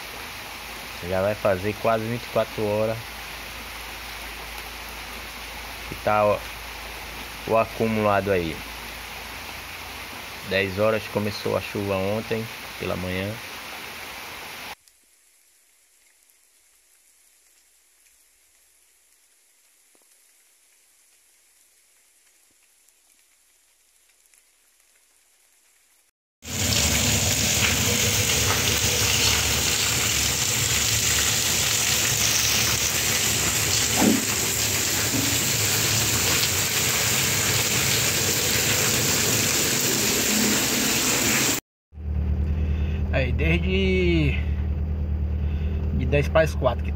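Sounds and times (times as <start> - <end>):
heavy rain hissing: 0.0 - 23.9, 24.5 - 41.6.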